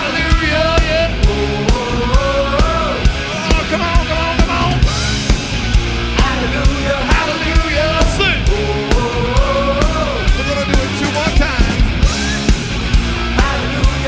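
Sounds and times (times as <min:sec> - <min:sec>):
instrumental rock band playing: 0:00.0 - 0:14.0
steady drum beat: 0:00.0 - 0:14.0.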